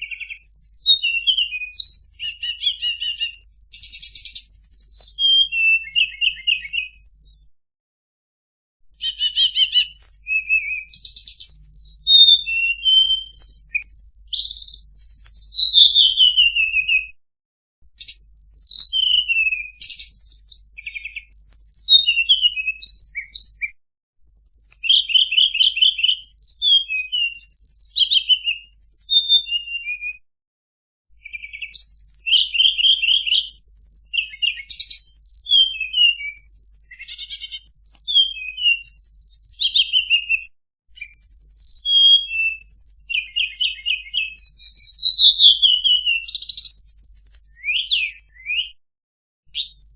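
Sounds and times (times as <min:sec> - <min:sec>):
songbird singing: 0:00.0 - 0:07.5, 0:09.0 - 0:17.2, 0:18.0 - 0:23.7, 0:24.3 - 0:30.1, 0:31.1 - 0:48.8, 0:49.5 - 0:49.9.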